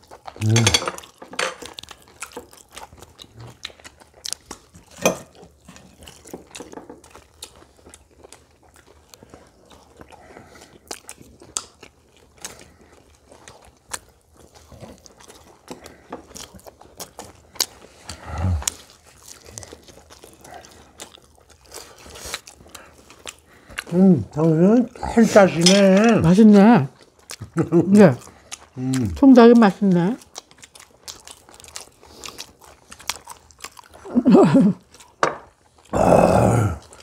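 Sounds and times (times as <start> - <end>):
crunchy chewing of fried food: 0.0 - 37.0.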